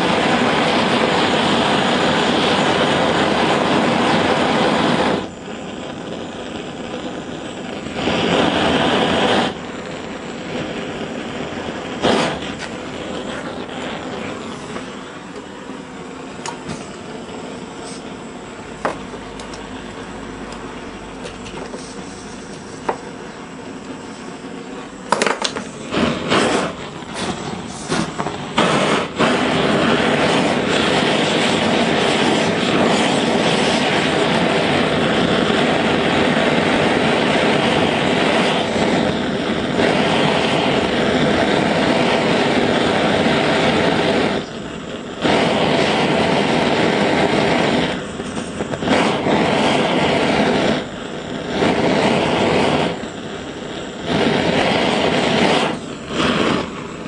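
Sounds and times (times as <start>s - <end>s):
blowtorch roaring: 0.0s - 57.0s
blowtorch sputtering: 0.0s - 57.0s.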